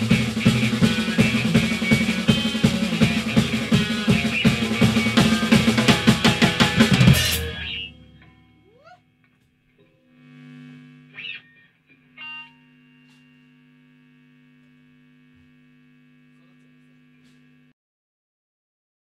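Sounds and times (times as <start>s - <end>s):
distorted electric guitar: 0.0s - 17.7s.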